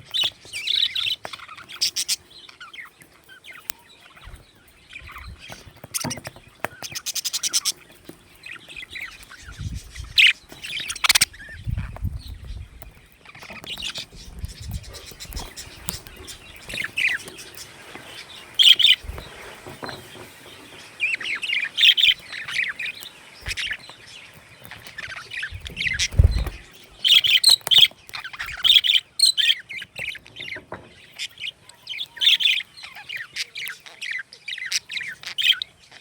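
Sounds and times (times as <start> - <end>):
budgerigars chirping: 0.0 - 36.0.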